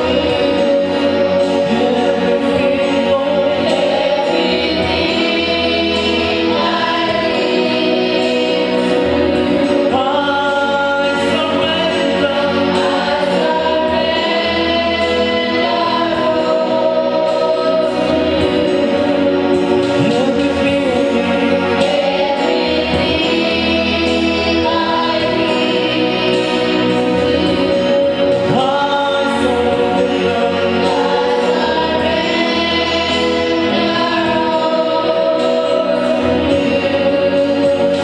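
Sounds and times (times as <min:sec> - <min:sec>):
choir singing gospel song: 0:00.0 - 0:38.0
musical accompaniment: 0:00.0 - 0:38.0.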